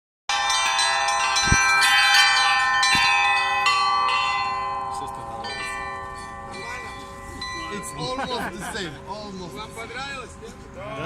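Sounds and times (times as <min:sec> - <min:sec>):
church bells ringing: 0:00.3 - 0:11.0.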